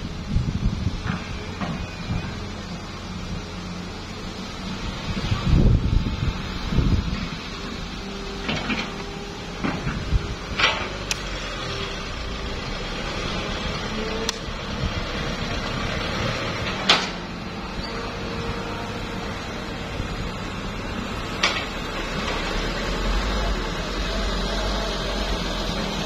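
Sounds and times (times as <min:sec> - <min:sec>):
diesel engines running: 0:00.0 - 0:26.0.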